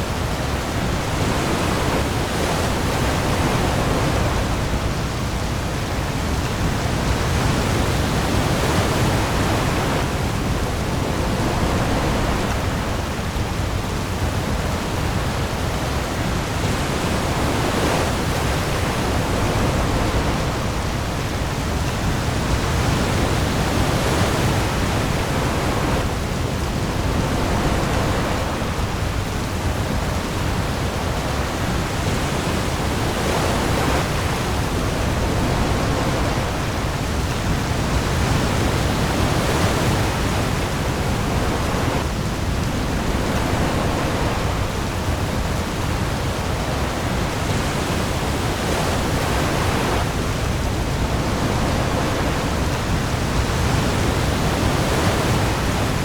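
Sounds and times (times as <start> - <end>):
heavy rain on the sea: 0.0 - 56.0
waves: 0.0 - 56.0.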